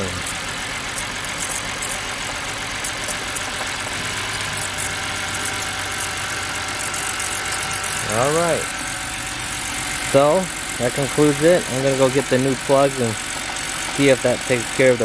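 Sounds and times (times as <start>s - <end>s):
car engine idling roughly: 0.0s - 15.0s
faint irregular ticking: 0.0s - 15.0s.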